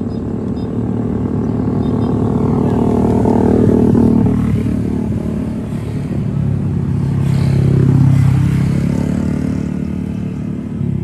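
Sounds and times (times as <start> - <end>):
vehicles passing by: 0.0 - 11.0.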